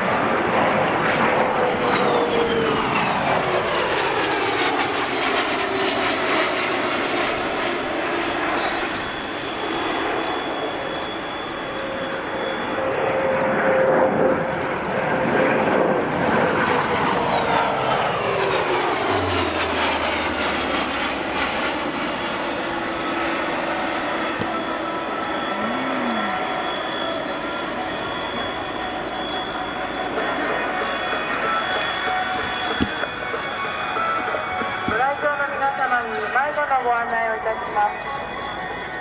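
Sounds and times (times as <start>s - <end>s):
jet aircraft flying past: 0.0s - 39.0s.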